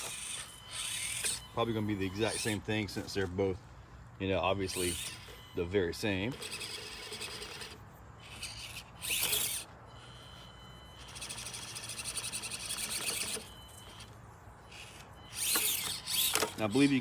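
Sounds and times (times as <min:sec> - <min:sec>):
small electric motor whirring: 0:00.0 - 0:03.5, 0:04.4 - 0:17.0.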